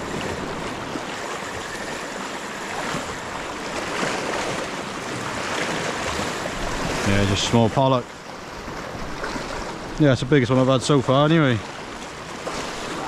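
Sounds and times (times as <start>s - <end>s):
sea water washing over rocks: 0.0s - 13.0s.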